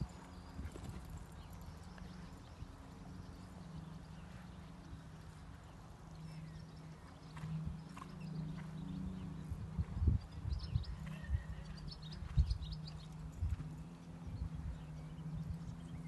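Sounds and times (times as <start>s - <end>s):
hoofbeats on sand: 0.0s - 15.8s
steady low hum: 0.0s - 16.0s.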